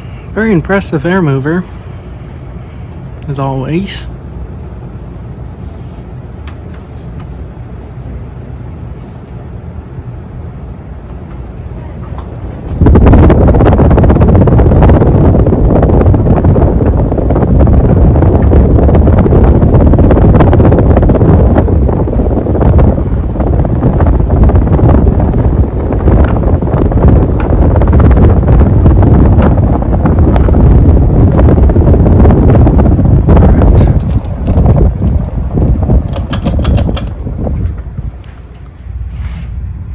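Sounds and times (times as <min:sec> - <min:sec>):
wind buffeting the microphone: 0:00.0 - 0:39.9.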